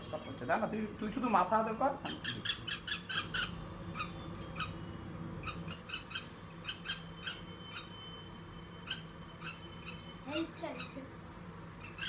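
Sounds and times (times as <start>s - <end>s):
small bird squawking: 1.1s - 4.8s, 5.4s - 8.1s, 8.8s - 12.0s.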